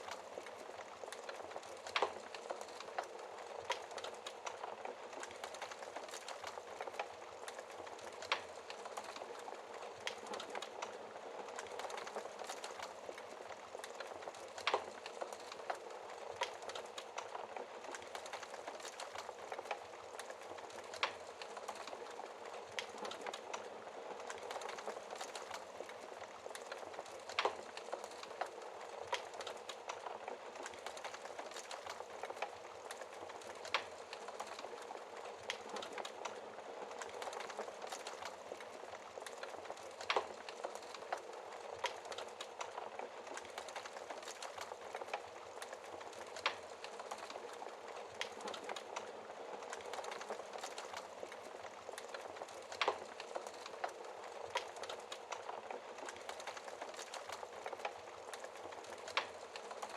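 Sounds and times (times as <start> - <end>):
wood fire hissing and crackling: 0.0 - 59.9.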